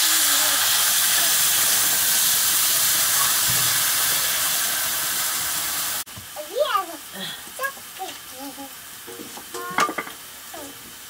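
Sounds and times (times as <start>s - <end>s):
water sizzling in hot wok: 0.0s - 11.0s.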